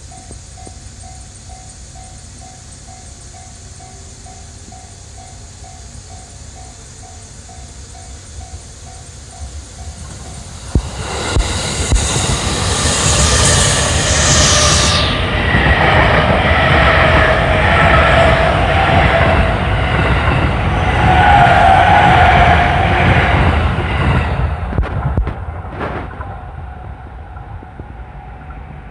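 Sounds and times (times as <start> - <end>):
train passing at speed: 0.0 - 28.9.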